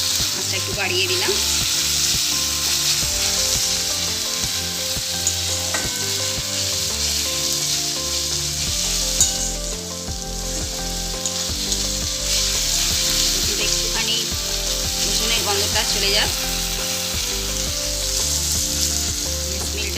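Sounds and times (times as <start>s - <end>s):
food sizzling in hot oil: 0.0s - 19.9s.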